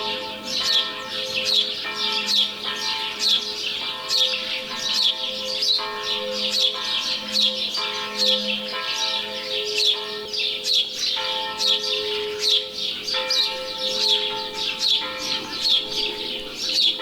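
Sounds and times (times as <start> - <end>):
church bells ringing: 0.0 - 17.0
small birds chirping: 0.0 - 17.0.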